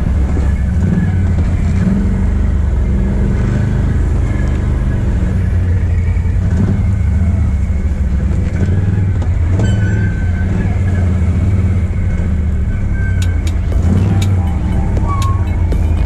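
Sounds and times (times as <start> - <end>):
atv engine droning: 0.0 - 16.0.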